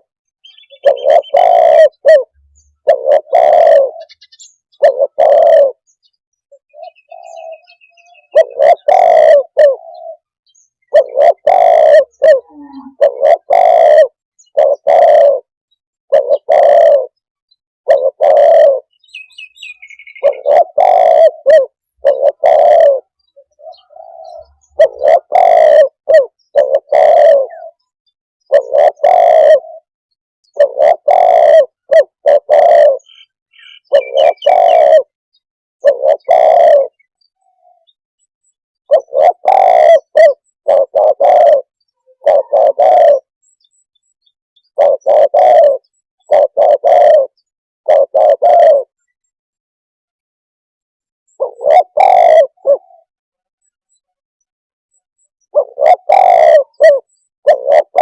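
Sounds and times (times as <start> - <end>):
dove cooing: 0.0 - 15.5, 16.1 - 17.2, 17.8 - 29.9, 30.5 - 35.1, 35.8 - 38.0, 38.8 - 43.3, 44.7 - 49.2, 51.3 - 53.1, 55.4 - 58.0.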